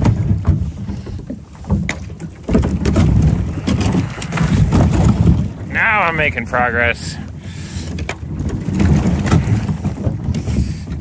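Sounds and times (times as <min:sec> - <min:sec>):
kayak grinding through ice: 0:00.0 - 0:11.0.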